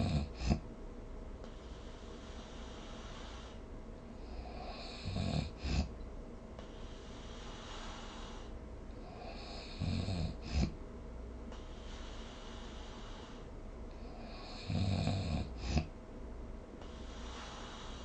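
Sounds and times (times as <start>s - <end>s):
low buzzing snore: 0.0s - 16.0s, 16.7s - 18.0s.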